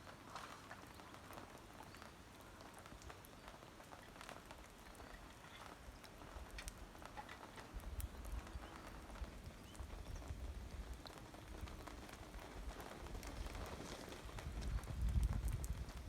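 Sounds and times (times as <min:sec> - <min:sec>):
faint ticks and taps: 0:00.3 - 0:16.0.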